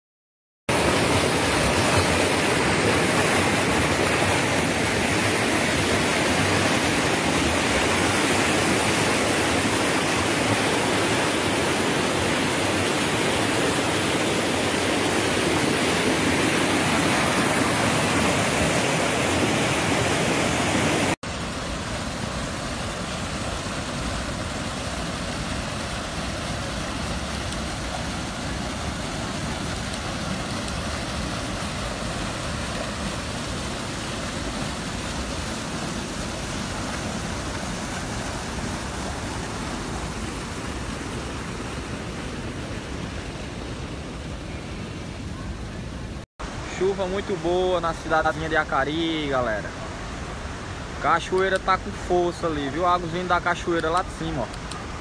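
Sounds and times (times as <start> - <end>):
floodwater rushing over spillway: 0.7 - 44.3, 45.3 - 55.0.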